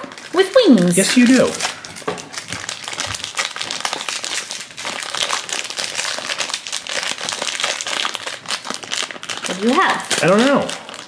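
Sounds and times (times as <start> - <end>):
plastic wrappers crinkling: 0.0 - 11.0.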